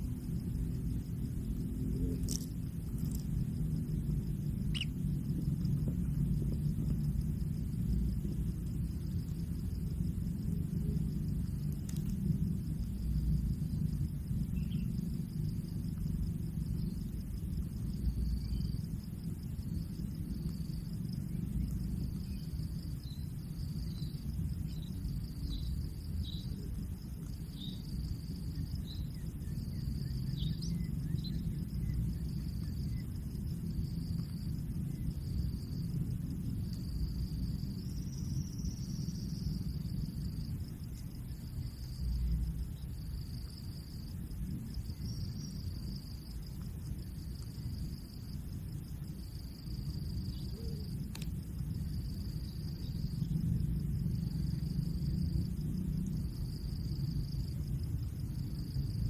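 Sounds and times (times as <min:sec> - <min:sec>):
insects trilling: 0:00.0 - 0:59.0
low rumble: 0:00.0 - 0:59.0.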